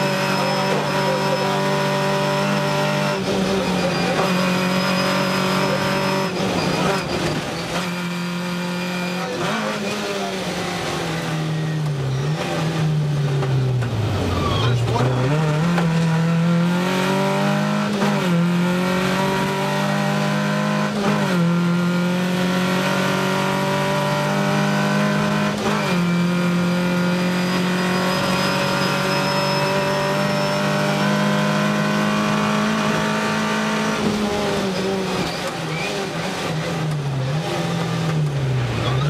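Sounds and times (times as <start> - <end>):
car engine revving with upshifts: 0.0 - 39.0.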